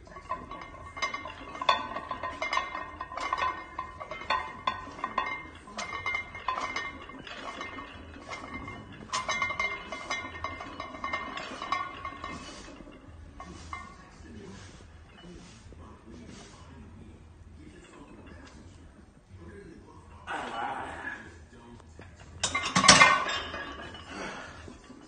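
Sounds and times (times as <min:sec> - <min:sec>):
weight plates clinking: 0:00.0 - 0:25.0.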